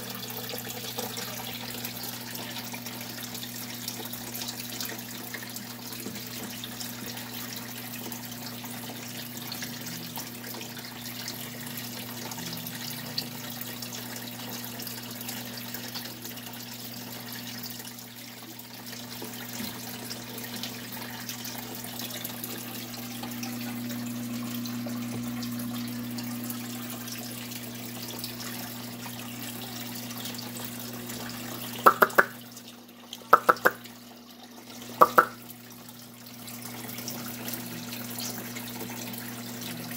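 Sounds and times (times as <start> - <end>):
aquarium filter water splashing: 0.0 - 39.9.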